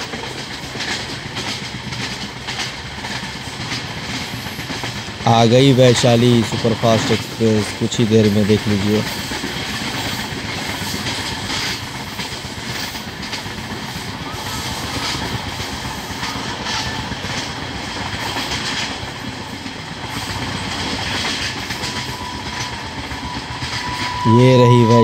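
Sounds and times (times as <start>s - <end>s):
train wheels rumbling on rails: 0.0s - 25.0s
wheels clicking over rail joints: 0.0s - 25.0s.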